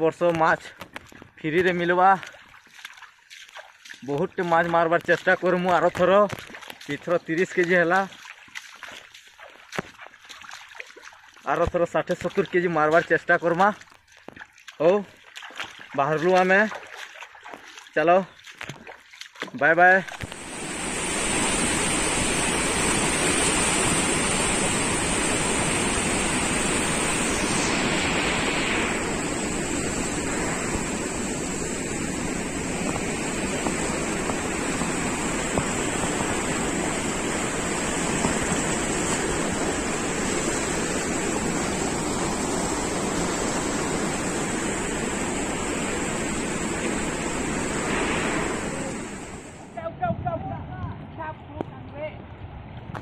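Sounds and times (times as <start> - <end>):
water rushing through spillway: 0.0 - 51.3.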